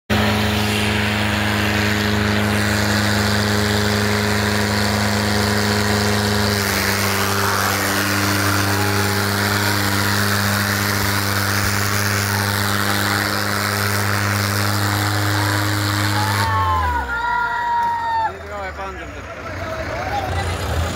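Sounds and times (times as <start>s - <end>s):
tractor diesel engines at full throttle: 0.1s - 20.9s.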